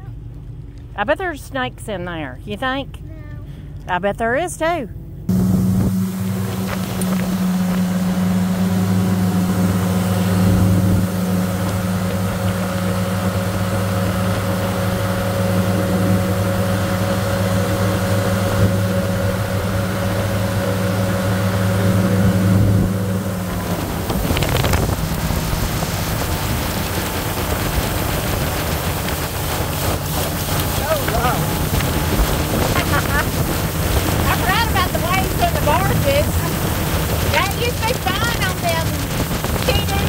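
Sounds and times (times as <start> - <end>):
motorboat engine humming: 0.0 - 40.0
wind: 0.0 - 40.0
water rushing past hull: 5.3 - 40.0.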